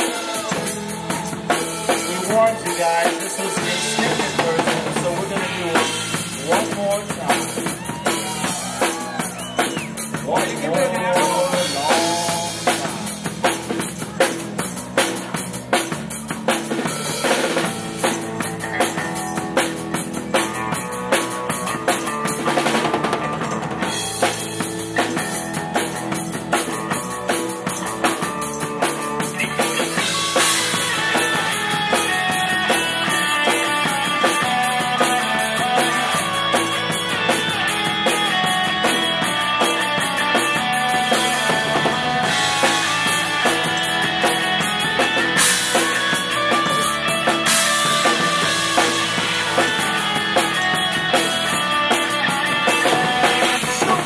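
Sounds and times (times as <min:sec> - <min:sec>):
drum kit beat: 0:00.0 - 0:54.0
live band playing: 0:00.0 - 0:54.0.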